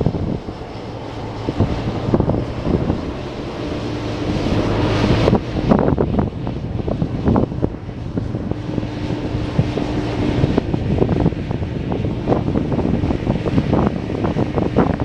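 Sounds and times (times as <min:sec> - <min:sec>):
distant diesel truck engine: 0:00.0 - 0:14.9
gusty wind on microphone: 0:00.0 - 0:15.0.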